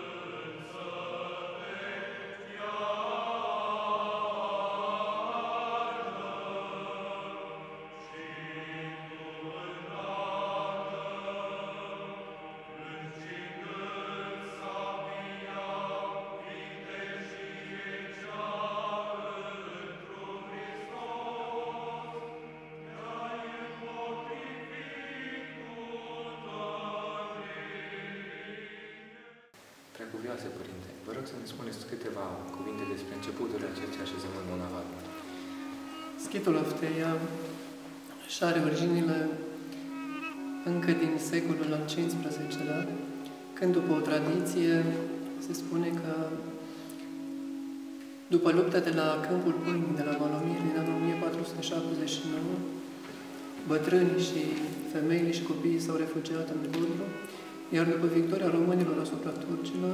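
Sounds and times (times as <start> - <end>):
church chant singing: 0.0 - 59.9.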